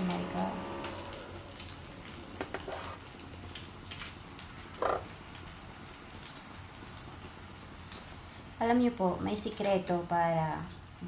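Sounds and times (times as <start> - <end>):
omelette sizzling in a pan: 0.0 - 11.0.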